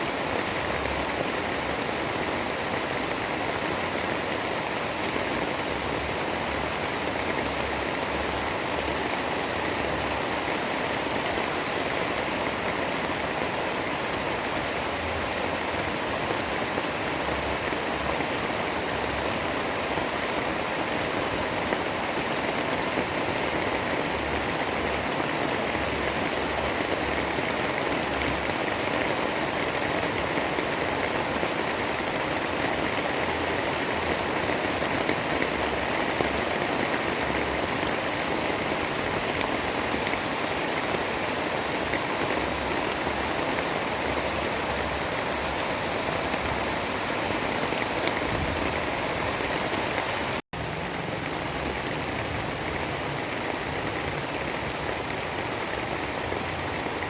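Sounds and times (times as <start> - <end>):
heavy rain rushing: 0.0 - 57.0.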